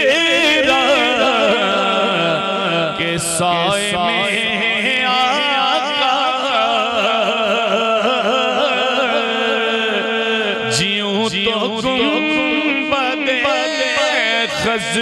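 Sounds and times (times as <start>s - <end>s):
man singing through pa system: 0.0s - 15.0s.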